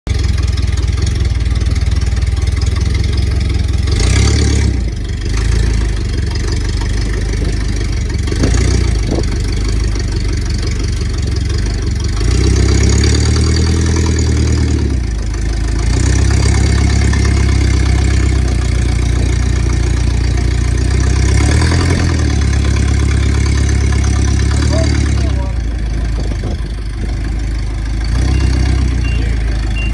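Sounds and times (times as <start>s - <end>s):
engine idling: 0.1s - 29.9s.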